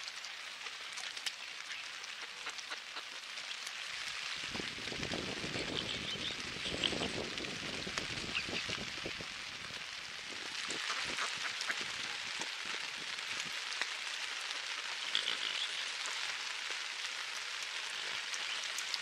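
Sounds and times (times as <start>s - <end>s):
rain falling on water: 0.0s - 19.0s.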